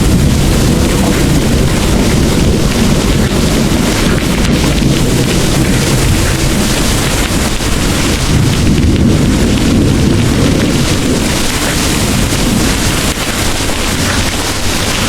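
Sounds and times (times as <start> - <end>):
distant thunder rumbling: 0.0 - 15.0
heavy rain pouring: 0.0 - 15.0.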